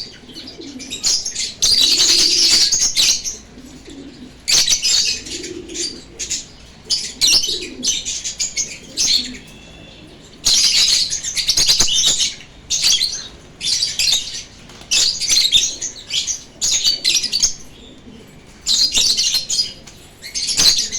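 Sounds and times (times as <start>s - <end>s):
birds chattering with shrill chirps: 0.0s - 20.9s.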